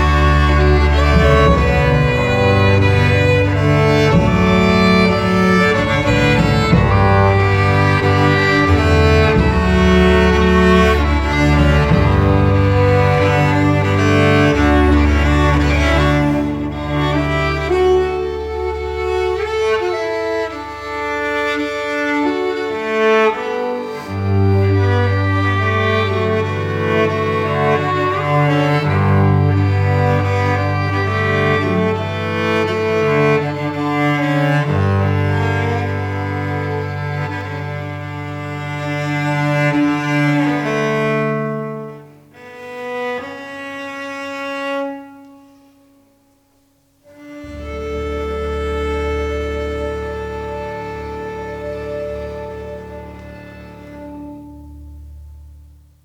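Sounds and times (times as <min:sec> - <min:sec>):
deep low string note: 0:00.0 - 0:42.6, 0:47.0 - 0:56.0
cello: 0:00.0 - 0:56.0
violin: 0:00.0 - 0:56.0.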